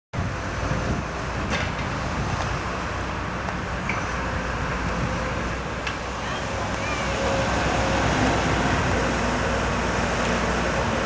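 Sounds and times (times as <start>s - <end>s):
diesel engine rumbling: 0.2s - 11.0s.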